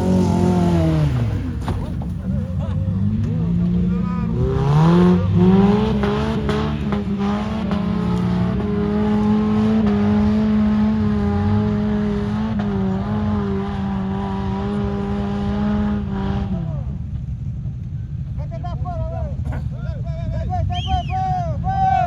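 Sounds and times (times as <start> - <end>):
off-road vehicle engine revving: 0.0 - 21.8.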